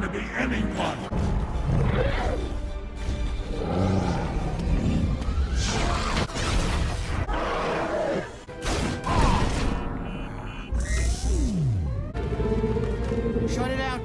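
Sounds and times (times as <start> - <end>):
action movie music: 0.0 - 14.0.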